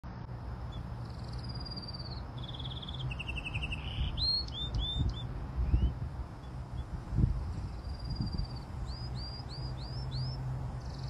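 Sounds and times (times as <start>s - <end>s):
songbird singing trills: 0.6s - 11.0s.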